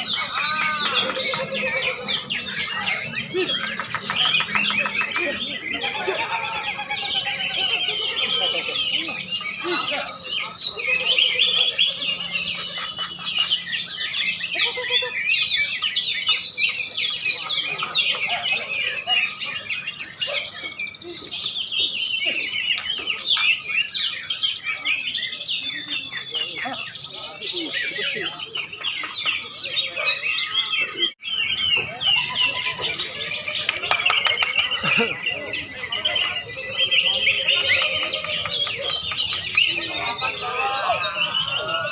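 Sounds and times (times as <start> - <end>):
songbirds chorus: 0.0 - 41.9.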